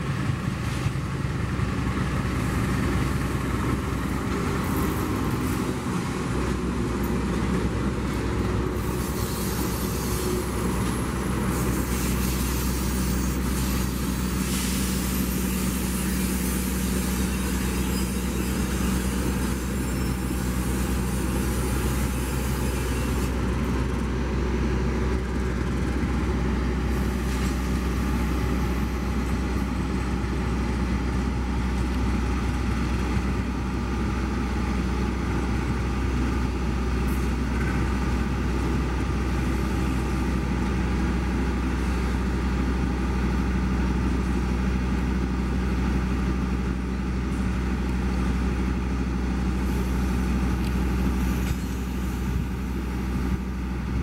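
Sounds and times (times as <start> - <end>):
large engine humming: 0.0 - 54.0.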